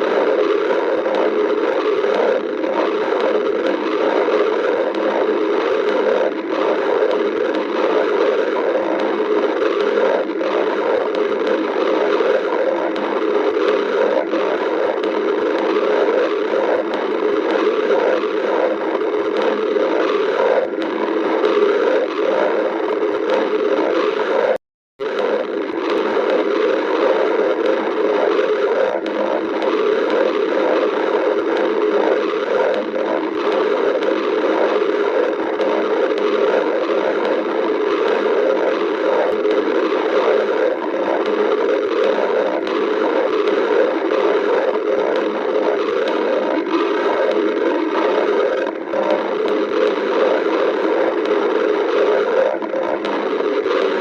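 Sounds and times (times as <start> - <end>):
stomach growling: 0.0 - 54.0.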